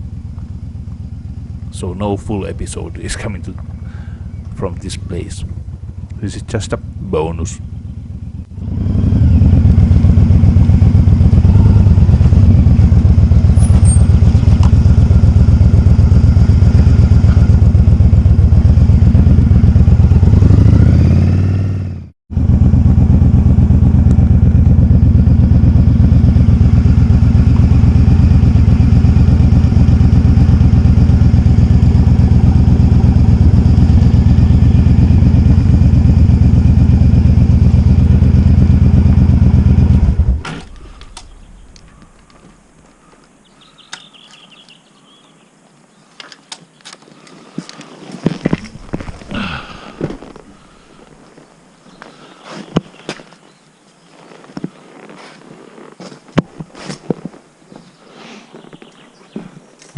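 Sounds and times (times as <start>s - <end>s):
motorcycle engine running: 0.0s - 44.6s, 47.4s - 58.0s.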